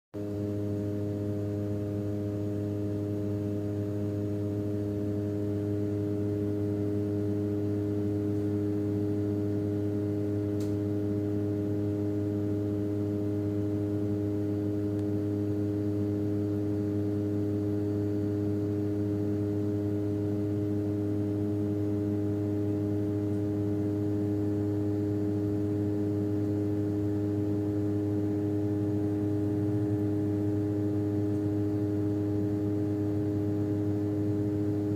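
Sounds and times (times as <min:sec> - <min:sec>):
airplane engine drone: 0:00.2 - 0:34.9.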